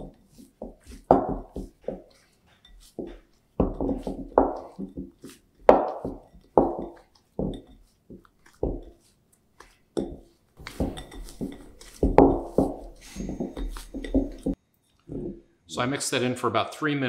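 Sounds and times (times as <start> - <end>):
dough knocking against glass bowl: 0.0 - 9.0, 10.0 - 15.4.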